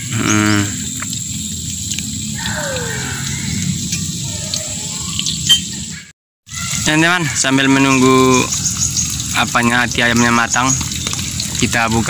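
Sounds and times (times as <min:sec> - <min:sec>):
livers frying in hot oil: 0:00.0 - 0:12.0.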